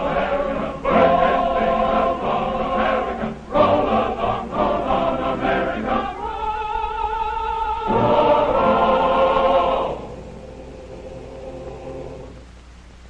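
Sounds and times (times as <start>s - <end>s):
male choir singing: 0.0s - 12.4s.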